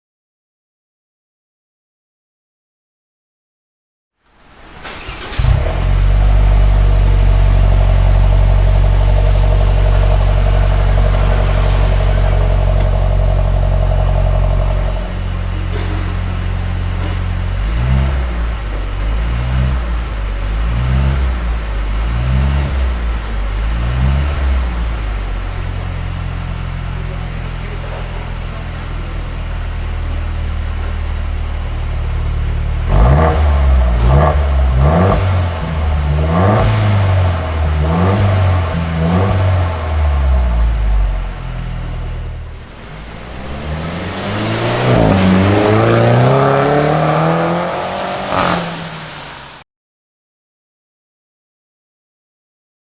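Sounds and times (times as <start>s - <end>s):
car engine idling and revving: 4.3s - 49.6s.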